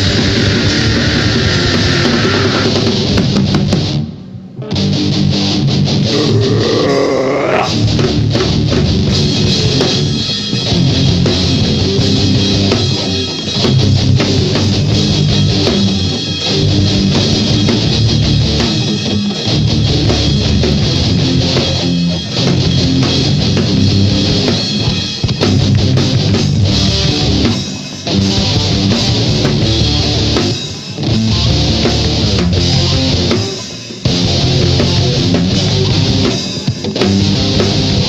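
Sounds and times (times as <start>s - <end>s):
bass guitar: 0.0s - 38.0s
distorted electric guitars: 0.0s - 38.0s
drum kit: 0.0s - 38.0s.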